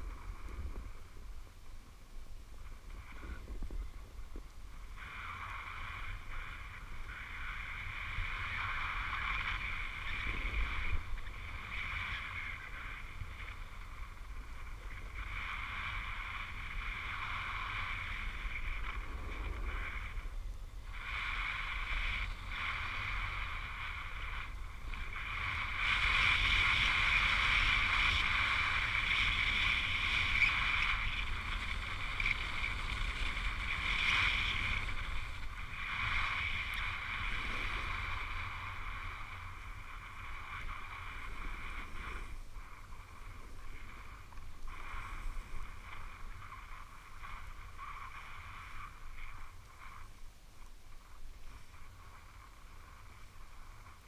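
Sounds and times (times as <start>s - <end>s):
skis sliding over snow: 0.0s - 54.0s
wind rumble on microphone: 0.0s - 54.0s.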